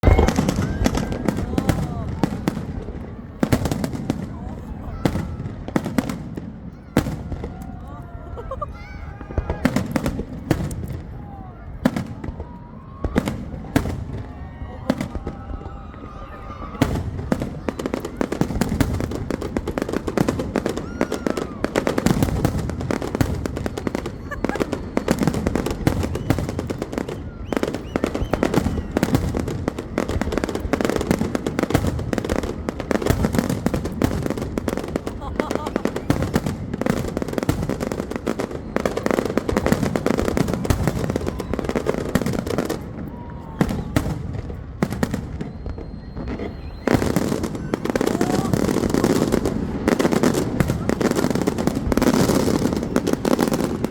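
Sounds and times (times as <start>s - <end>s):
firework whistle: 0.0s - 4.2s, 9.2s - 53.9s
fireworks cracks and bangs: 0.0s - 53.9s.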